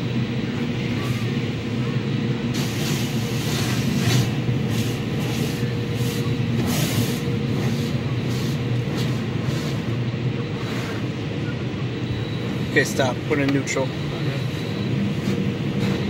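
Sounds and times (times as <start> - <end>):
low machinery hum: 0.0 - 16.0.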